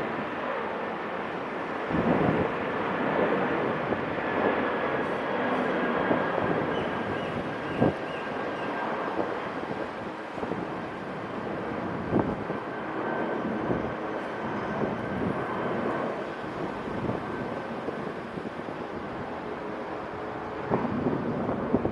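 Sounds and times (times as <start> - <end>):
jet engines rumbling and whining: 0.0 - 21.9.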